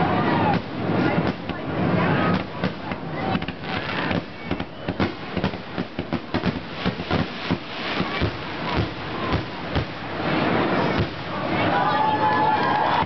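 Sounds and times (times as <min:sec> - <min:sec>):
fireworks bursts and crackling: 0:00.0 - 0:13.0.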